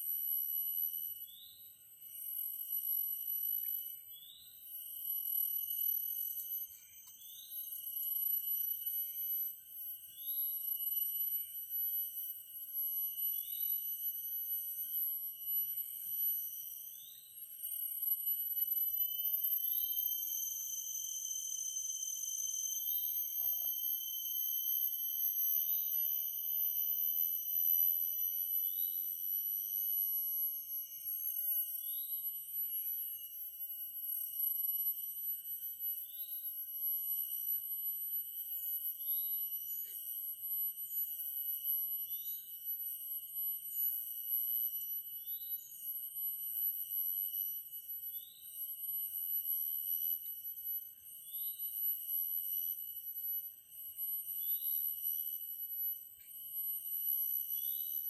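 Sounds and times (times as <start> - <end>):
insects droning: 0.2 - 58.0.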